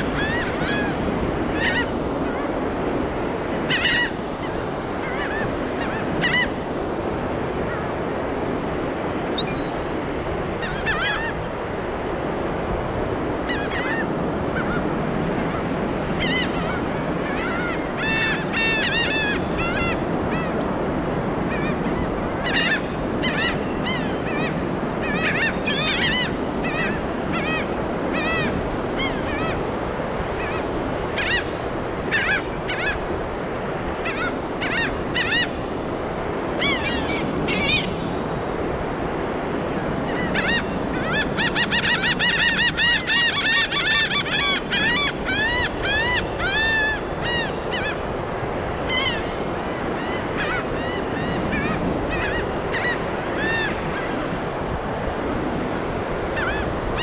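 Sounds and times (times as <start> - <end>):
gulls calling: 0.0 - 57.0
surf rushing: 0.0 - 57.0.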